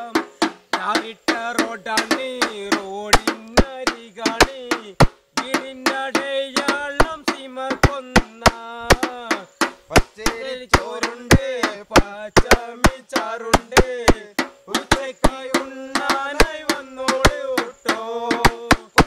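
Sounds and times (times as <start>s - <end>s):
man singing held notes: 0.0s - 19.0s
sharp percussive knocks: 0.0s - 19.0s.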